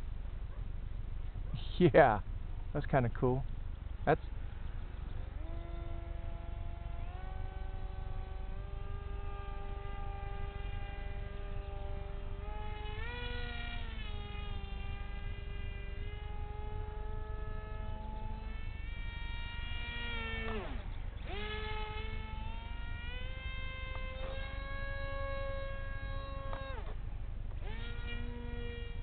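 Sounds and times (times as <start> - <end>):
model jet propeller whining: 4.1 - 29.0.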